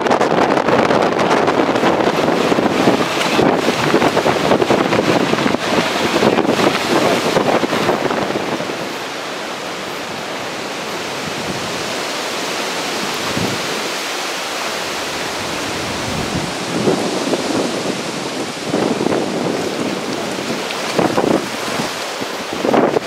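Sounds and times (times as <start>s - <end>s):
storm wind rushing: 0.0s - 23.0s
wind buffeting microphone: 0.0s - 23.0s.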